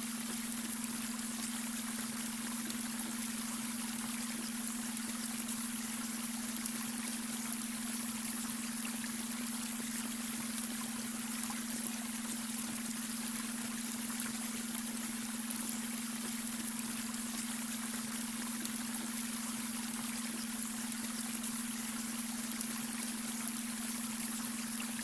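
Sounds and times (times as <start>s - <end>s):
brook water over stones: 0.0s - 25.0s.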